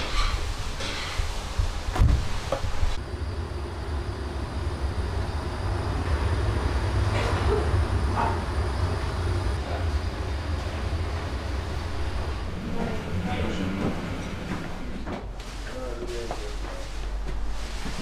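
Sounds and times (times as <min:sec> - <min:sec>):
gas burner rumbling: 0:00.0 - 0:18.0.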